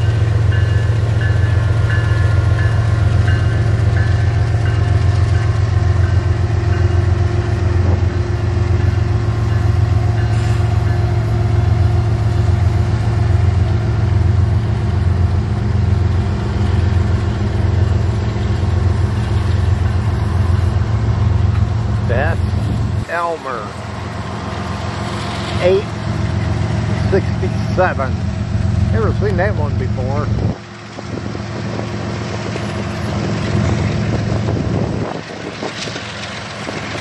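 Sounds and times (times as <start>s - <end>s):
diesel locomotives passing: 0.0s - 37.0s.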